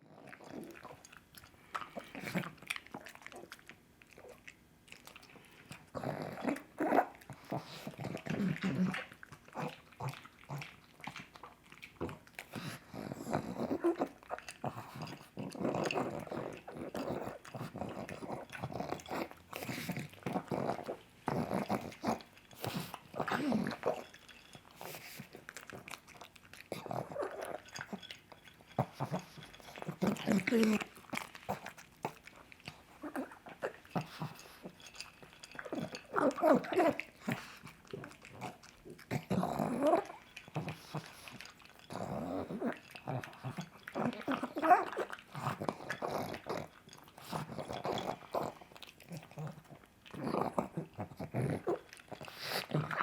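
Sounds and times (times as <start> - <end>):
dog chewing wetly: 0.0 - 53.0.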